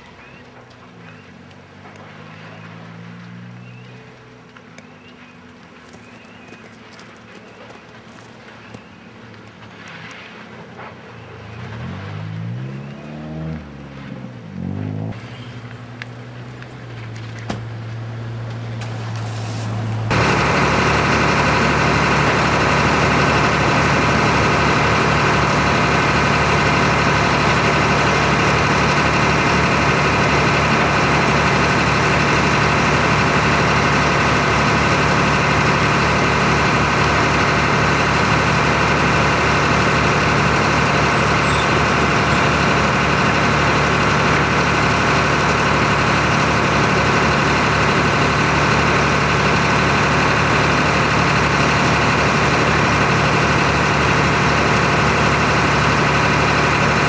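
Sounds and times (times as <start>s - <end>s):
heavy engine humming: 0.0s - 57.0s
loud machine drone: 0.0s - 57.0s.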